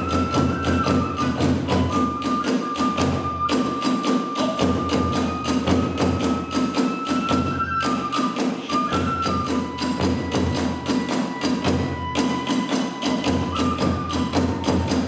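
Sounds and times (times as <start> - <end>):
bamboo flute: 0.0 - 15.0
small hand cymbals: 0.0 - 15.0
taiko drums: 0.0 - 15.0.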